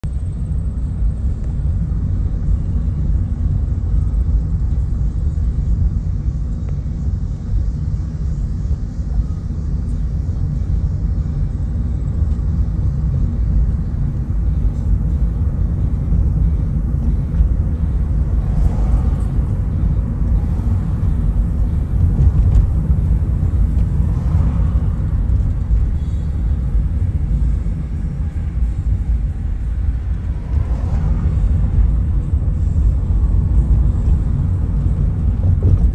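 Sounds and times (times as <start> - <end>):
car engine: 0.0 - 35.9
car road and tyre noise: 0.0 - 35.9.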